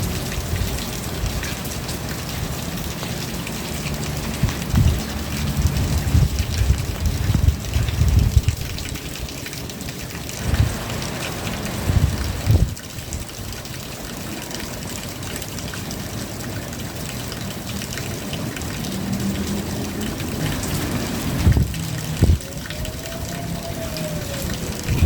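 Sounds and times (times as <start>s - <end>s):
steady rain: 0.0s - 25.0s
water trickling: 0.0s - 25.0s.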